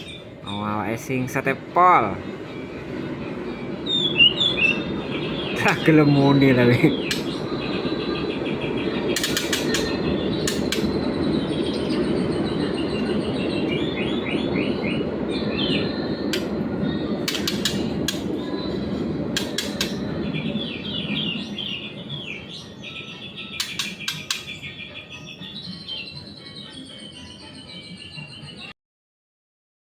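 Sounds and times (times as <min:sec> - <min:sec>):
steady rushing noise: 0:00.0 - 0:24.9
bird chip notes: 0:00.0 - 0:28.7.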